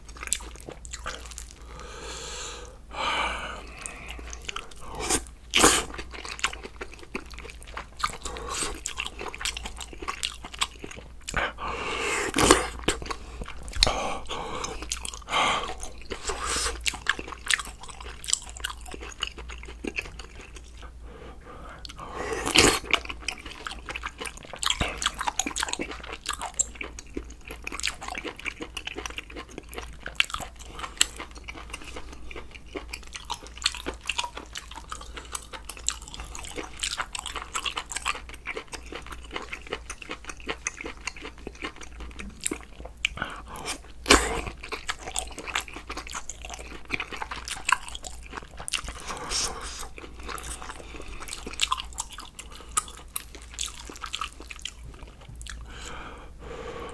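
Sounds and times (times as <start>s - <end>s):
person chewing crunchy food: 0.0s - 2.7s, 3.5s - 21.0s, 21.7s - 56.0s.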